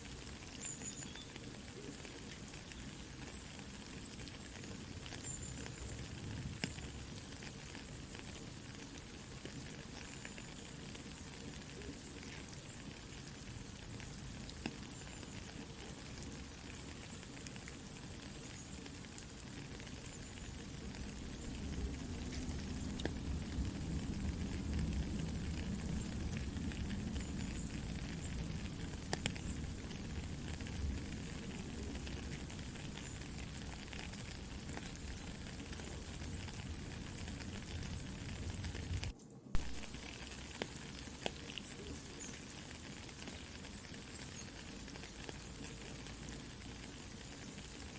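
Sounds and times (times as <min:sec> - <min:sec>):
campfire crackling: 0:00.0 - 0:47.9
soft rain falling: 0:00.0 - 0:47.9.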